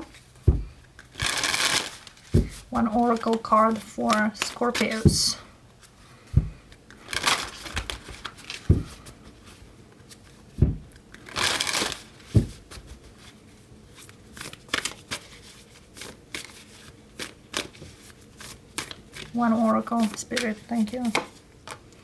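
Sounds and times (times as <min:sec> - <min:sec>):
cards being shuffled: 0:00.0 - 0:21.9.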